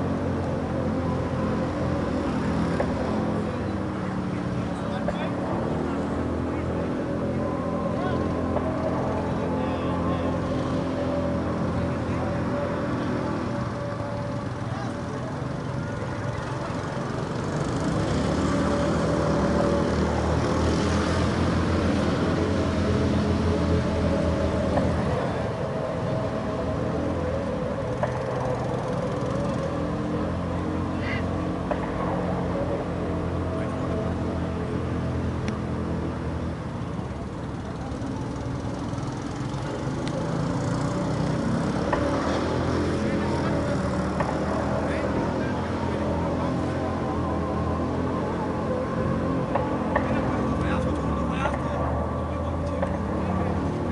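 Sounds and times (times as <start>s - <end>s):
low engine rumble: 0.0s - 53.9s.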